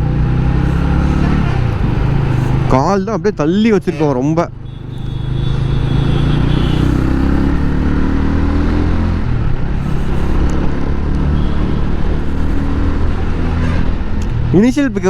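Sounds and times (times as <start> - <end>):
motorcycle engine accelerating: 0.0 - 3.6, 4.4 - 14.6.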